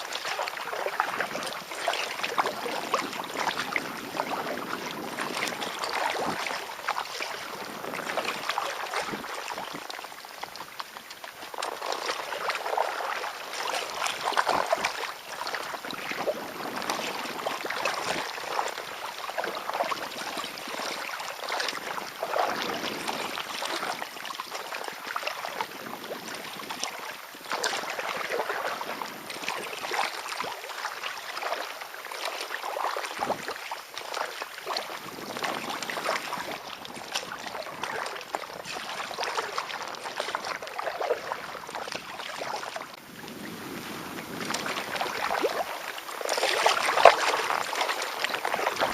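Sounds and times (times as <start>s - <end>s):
kayak paddle strokes splashing: 0.0s - 48.9s
water sloshing against hull: 0.0s - 48.9s.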